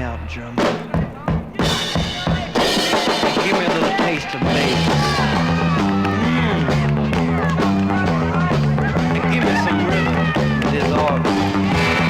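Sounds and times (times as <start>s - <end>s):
garage rock band playing: 0.0s - 12.0s.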